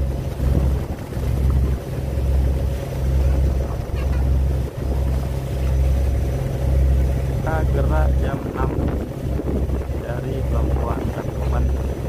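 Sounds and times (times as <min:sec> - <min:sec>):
ship engine running: 0:00.0 - 0:12.0
wind buffeting microphone: 0:00.0 - 0:12.0.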